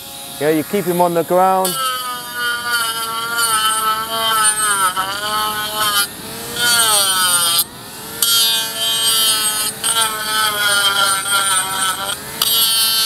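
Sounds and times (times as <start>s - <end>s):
grinder motor whine: 0.0s - 13.0s
rasping grinding of hoof: 0.4s - 13.0s.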